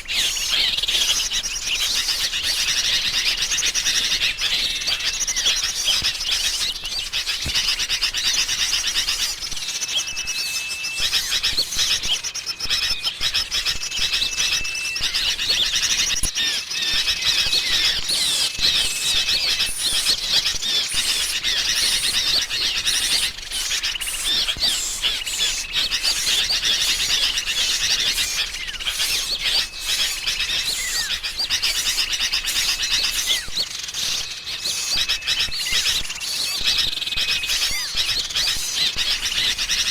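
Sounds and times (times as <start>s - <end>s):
flat whistled bird notes: 0.0s - 39.9s
songbirds chattering and twittering: 0.0s - 39.9s.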